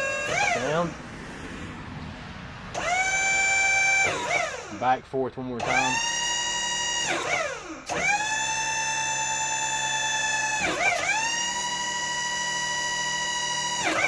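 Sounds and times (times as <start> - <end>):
hydraulic pump whining: 0.0 - 14.0.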